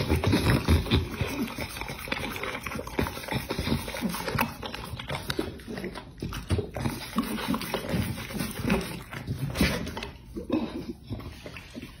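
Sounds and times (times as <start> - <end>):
dog licking metal plate: 0.0 - 12.0.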